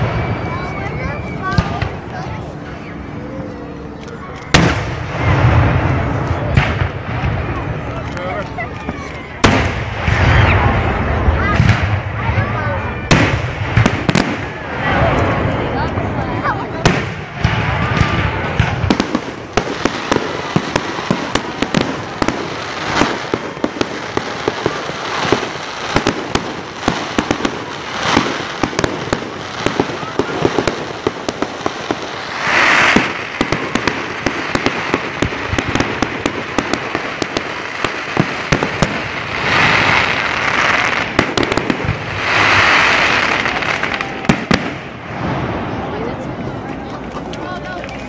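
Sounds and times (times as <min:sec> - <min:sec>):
fireworks bursting and crackling: 0:00.0 - 0:48.0.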